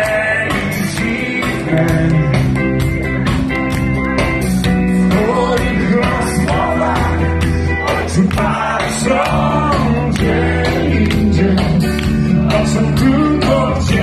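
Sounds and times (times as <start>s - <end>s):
man singing lead vocal: 0.0s - 2.8s, 4.9s - 14.0s
live band playing: 0.0s - 14.0s
steady drum beat: 0.0s - 14.0s.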